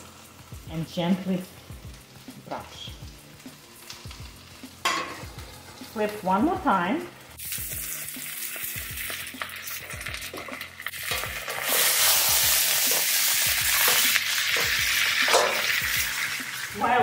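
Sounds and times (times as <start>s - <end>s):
poultry sizzling in a skillet: 0.0s - 17.0s.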